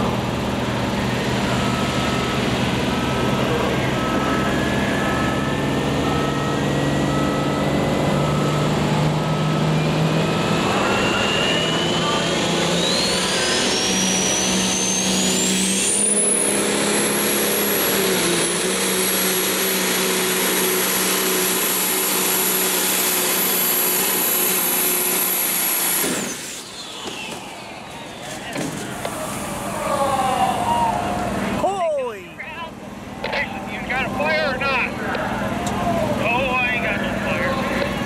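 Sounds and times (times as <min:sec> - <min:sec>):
diesel engine running hard: 0:00.0 - 0:38.0
turbocharger whine: 0:00.0 - 0:38.0.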